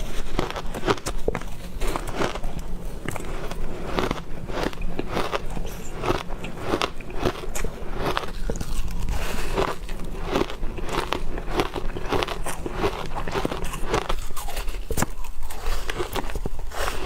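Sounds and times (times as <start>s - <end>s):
ice crunched between teeth: 3.1s - 17.0s.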